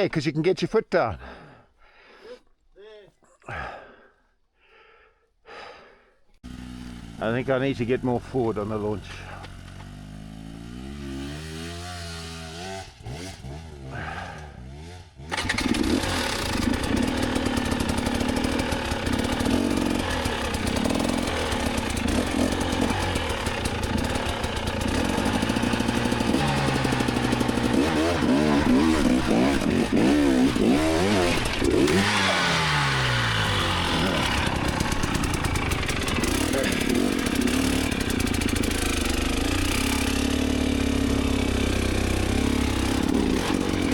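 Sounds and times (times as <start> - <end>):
dirt bike engine revving: 6.4 - 43.9.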